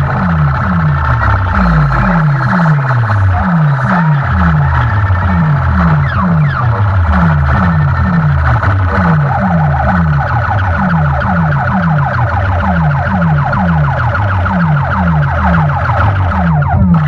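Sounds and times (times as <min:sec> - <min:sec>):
deep sliding bass note: 0:00.0 - 0:17.0
warbling siren-like electronic tone: 0:00.0 - 0:17.0.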